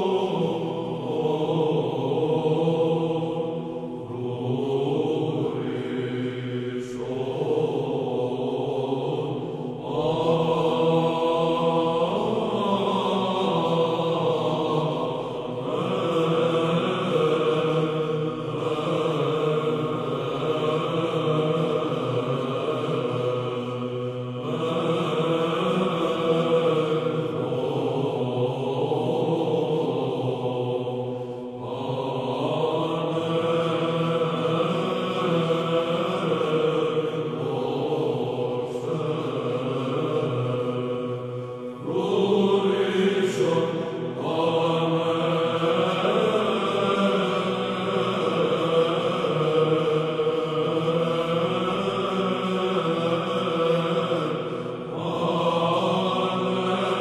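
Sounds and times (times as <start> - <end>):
choir chanting: 0.0 - 57.0.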